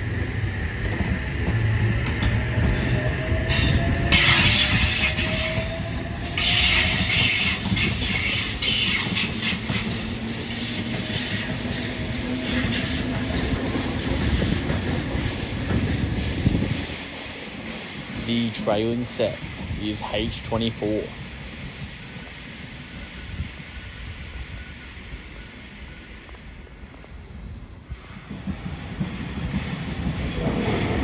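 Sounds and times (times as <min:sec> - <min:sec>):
train wheels squealing: 0:01.3 - 0:31.0.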